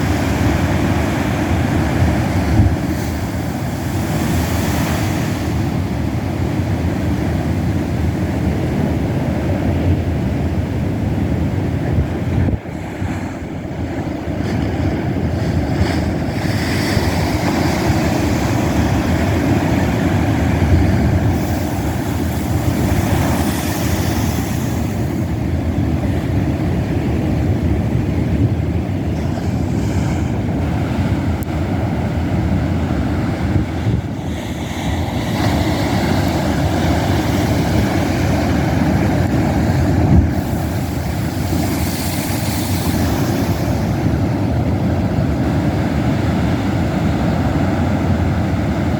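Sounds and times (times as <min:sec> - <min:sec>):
hissing wash of water: 0:00.0 - 0:14.4, 0:15.2 - 0:27.6, 0:29.0 - 0:48.9
waves rumbling against cliffs: 0:00.0 - 0:48.9
wind on microphone: 0:00.0 - 0:48.9.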